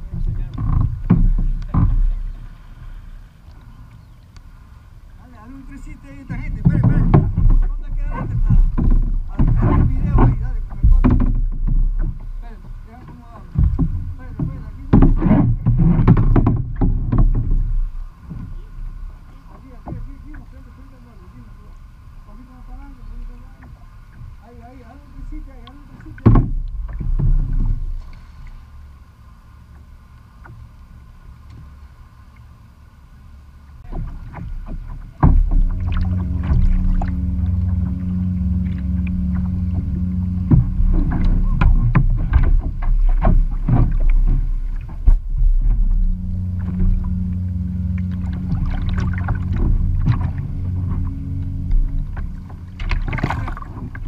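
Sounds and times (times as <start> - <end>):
heavy low thumps: 0.0 - 3.2, 3.8 - 20.8, 25.2 - 28.1, 33.8 - 54.0
water slapping against kayak hull: 0.0 - 32.6, 33.2 - 54.0
paddle splashes: 0.0 - 54.0
steady low hum: 0.0 - 54.0.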